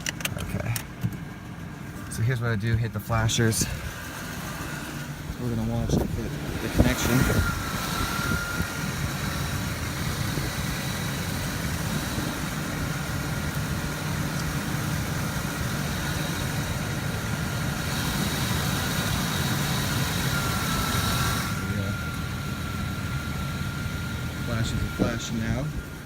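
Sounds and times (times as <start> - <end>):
vehicle engine idling: 0.0 - 26.0
faint high whine: 1.8 - 26.0.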